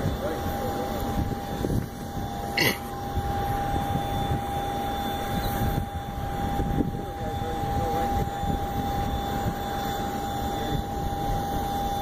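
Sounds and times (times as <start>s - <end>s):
aircraft engine whine: 0.0s - 12.0s
wind rumble on microphone: 0.0s - 12.0s.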